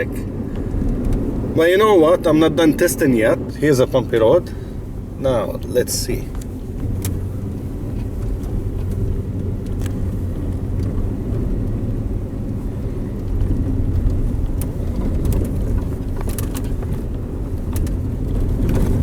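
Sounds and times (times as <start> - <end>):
interior trim rattling: 0.0 - 19.0
road and tyre rumble: 0.0 - 19.0.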